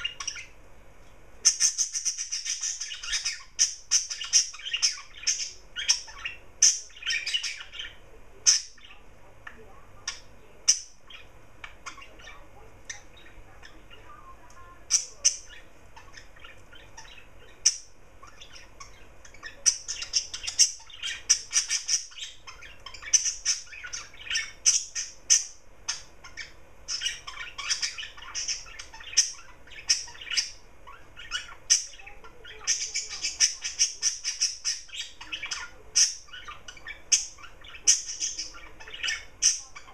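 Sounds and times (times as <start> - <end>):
garden birds calling: 0.0 - 39.9.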